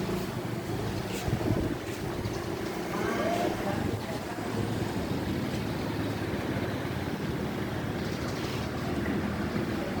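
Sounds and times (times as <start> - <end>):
rushing wind: 0.0 - 10.0.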